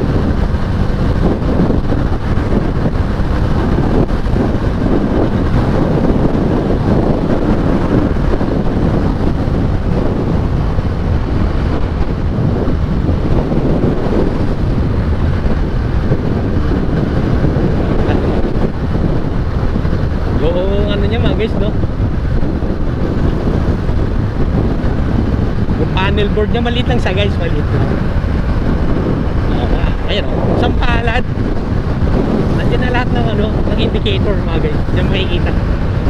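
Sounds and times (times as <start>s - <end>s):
motorcycle running: 0.0s - 36.0s
wind rush on microphone: 0.0s - 36.0s.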